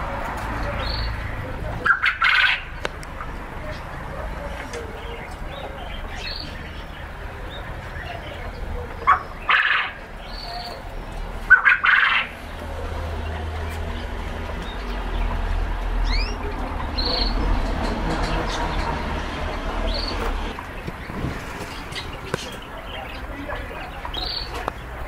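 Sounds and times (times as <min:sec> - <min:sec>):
canaries chirping: 0:00.0 - 0:25.0
harsh bird calls: 0:00.0 - 0:25.0.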